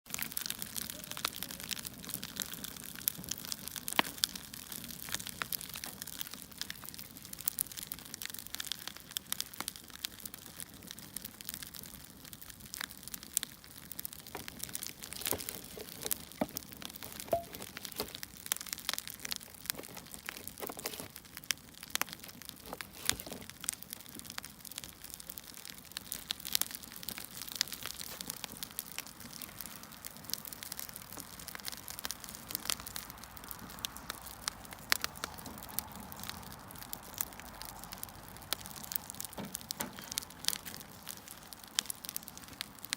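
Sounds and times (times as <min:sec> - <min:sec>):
wood fire crackling: 0:00.1 - 0:42.9.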